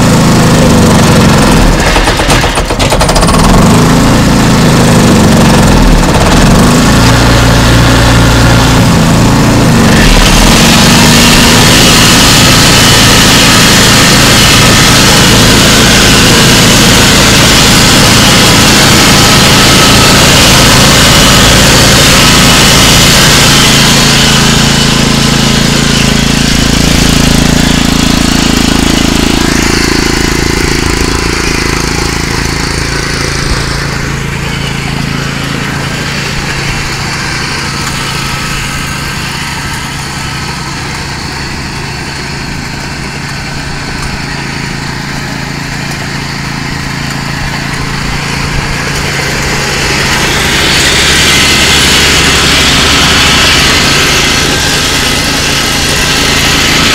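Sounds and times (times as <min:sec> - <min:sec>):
small gasoline engine running: 0:00.0 - 0:56.9.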